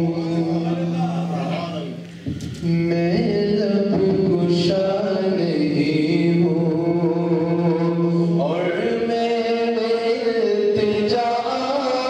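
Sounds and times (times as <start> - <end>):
man chanting devotional song: 0.0 - 12.0.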